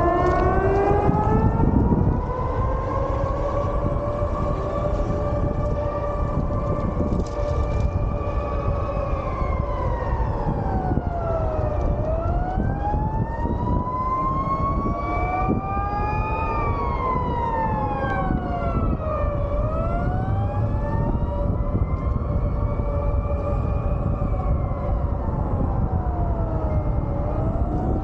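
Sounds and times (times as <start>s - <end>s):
warning siren rising and falling: 0.0s - 28.0s.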